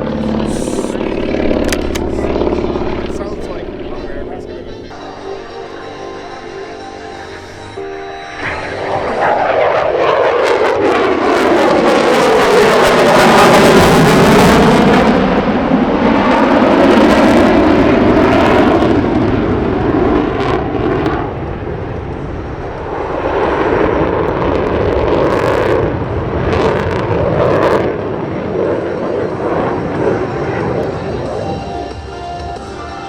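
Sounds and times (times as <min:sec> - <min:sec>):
airplane engine rushing past: 0:00.0 - 0:33.0.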